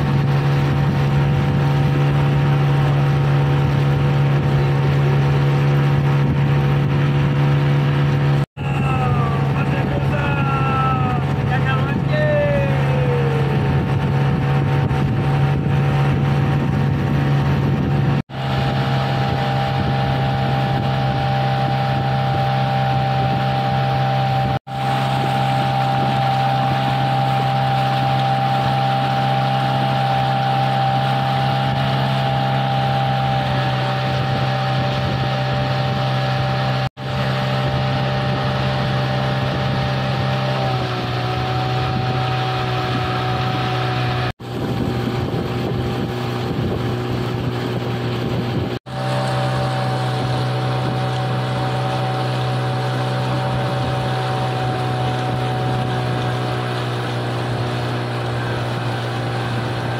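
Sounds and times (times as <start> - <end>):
outboard motor running: 0.0 - 59.9
water rushing under hull: 0.0 - 59.9.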